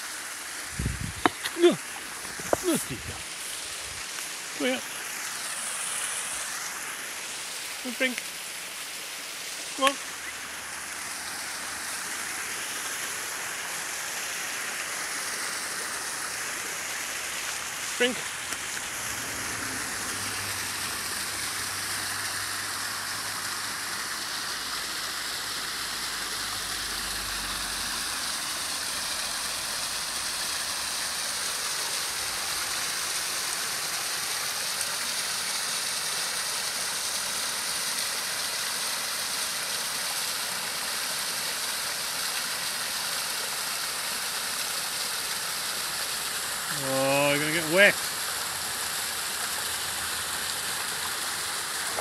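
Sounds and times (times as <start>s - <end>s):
waterfall rushing water: 0.0s - 52.0s.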